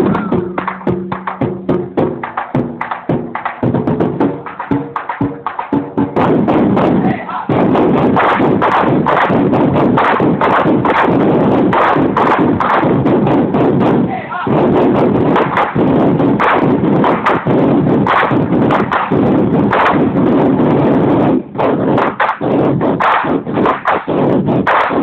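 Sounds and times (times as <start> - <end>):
large drums beaten together: 0.0 - 25.0.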